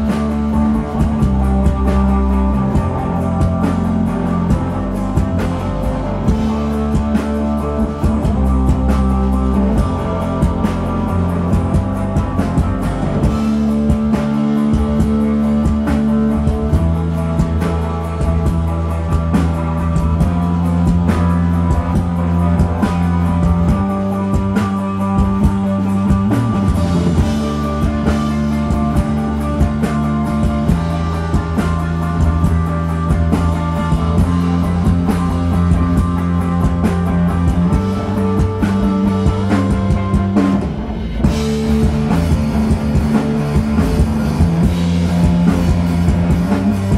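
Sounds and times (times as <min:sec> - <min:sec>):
bass guitar: 0:00.0 - 0:46.9
distorted electric guitar: 0:00.0 - 0:46.9
drum kit beat: 0:00.0 - 0:46.9.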